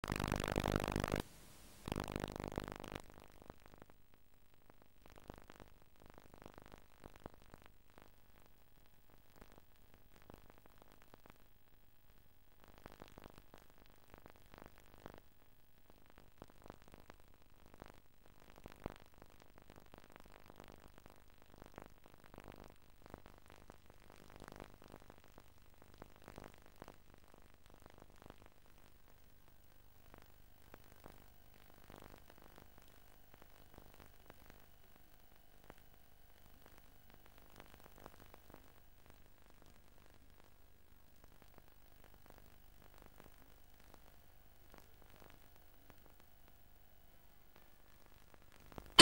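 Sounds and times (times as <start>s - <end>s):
small clicks and crackles: 0.0s - 49.0s
tape hiss: 0.0s - 49.0s.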